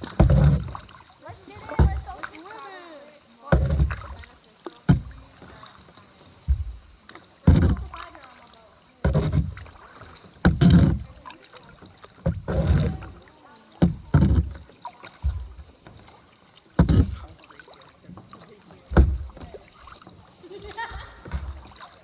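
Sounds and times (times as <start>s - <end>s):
kayak paddle splashing water: 0.0s - 22.0s.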